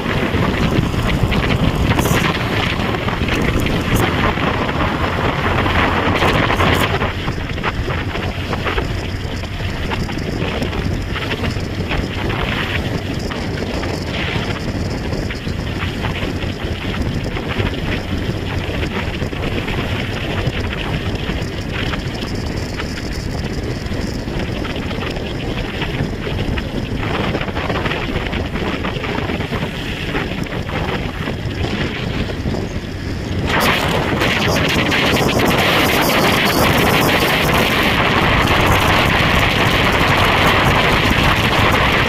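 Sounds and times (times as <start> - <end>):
motorcycle engine: 0.0 - 42.0
road noise: 0.0 - 42.0
wind buffeting microphone: 0.0 - 42.0.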